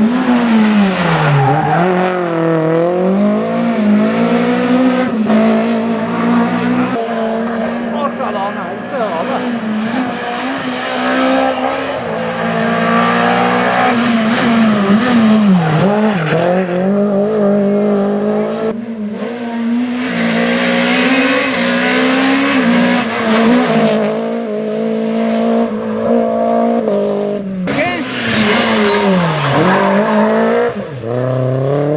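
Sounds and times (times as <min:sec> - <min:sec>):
car engine at high revs: 0:00.0 - 0:31.9.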